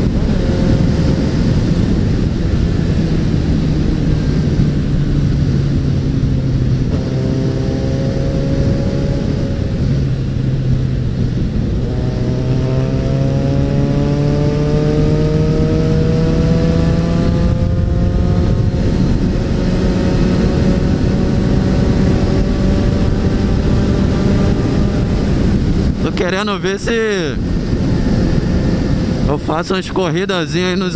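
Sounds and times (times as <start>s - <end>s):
motorcycle engine accelerating: 0.0s - 26.4s, 27.2s - 29.5s
wind rushing over microphone: 0.0s - 30.9s.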